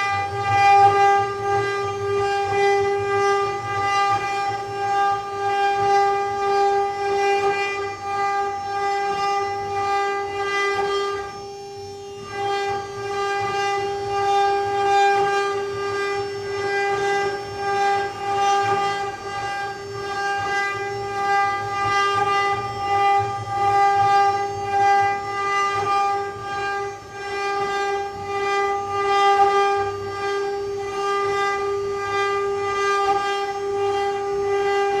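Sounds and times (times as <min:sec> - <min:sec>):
router spindle high whine: 0:00.0 - 0:35.0.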